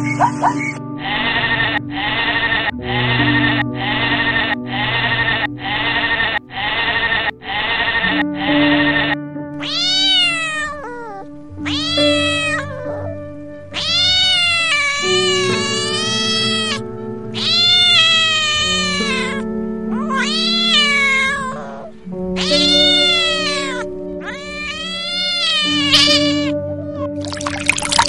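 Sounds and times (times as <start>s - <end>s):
background music with held notes: 0.0s - 28.0s
cat meowing: 0.1s - 28.0s.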